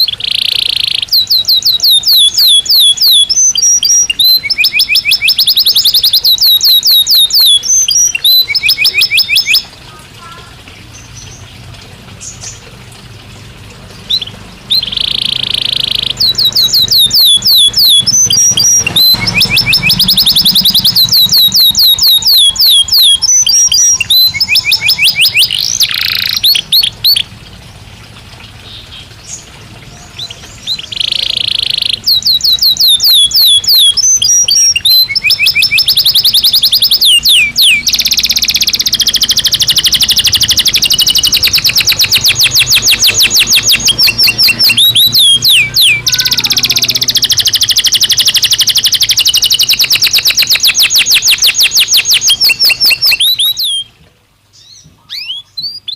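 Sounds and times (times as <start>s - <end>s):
canary singing trills: 0.0s - 12.8s, 13.4s - 27.4s, 28.6s - 55.9s.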